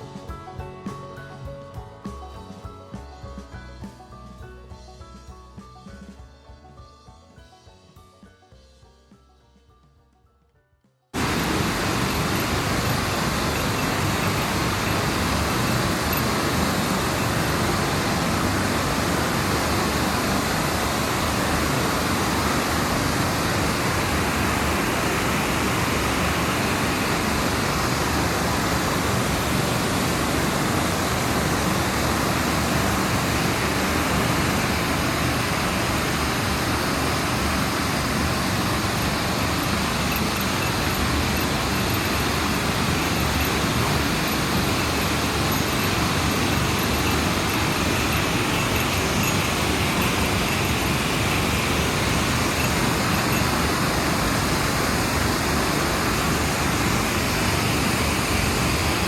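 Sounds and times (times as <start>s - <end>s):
rushing water roar: 11.2s - 59.0s.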